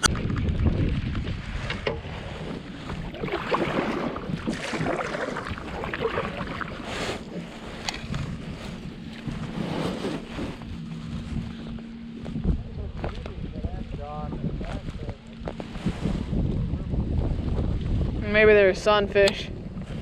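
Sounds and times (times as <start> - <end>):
water lapping against kayak hull: 0.0 - 18.2
wind buffeting microphone: 0.0 - 20.0.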